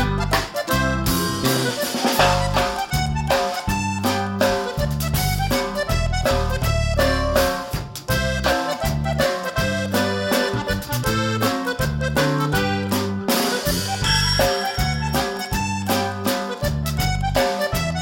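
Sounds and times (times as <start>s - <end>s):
bass line: 0.0s - 18.0s
free-reed melody: 0.0s - 18.0s.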